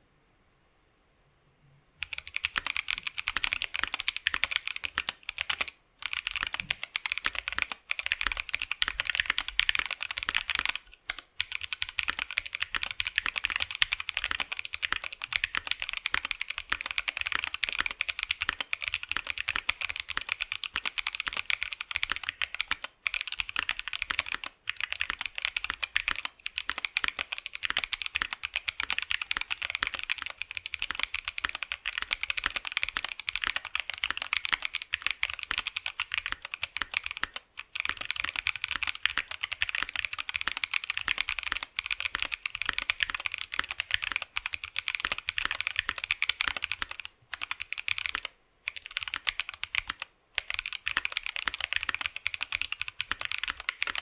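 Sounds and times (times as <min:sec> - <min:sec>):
typing on mechanical keyboard: 0:02.0 - 0:54.0.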